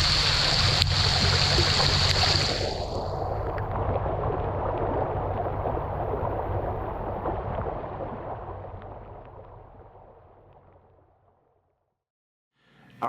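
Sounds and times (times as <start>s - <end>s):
low rumble: 0.0s - 11.1s
water gurgling and splashing: 0.0s - 11.6s.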